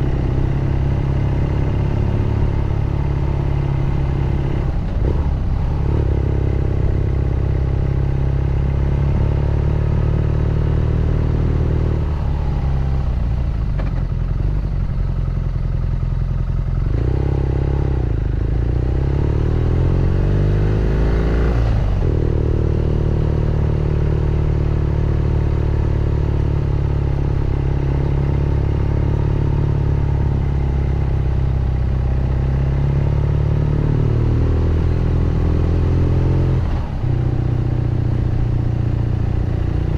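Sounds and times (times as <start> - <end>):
motorcycle engine running: 0.0 - 20.9, 21.7 - 39.9.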